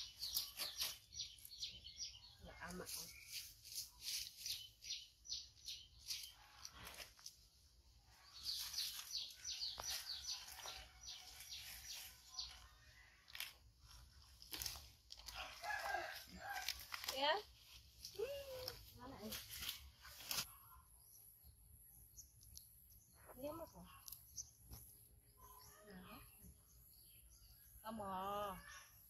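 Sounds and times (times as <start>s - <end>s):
bird chirping: 0.0s - 16.6s, 20.5s - 29.0s.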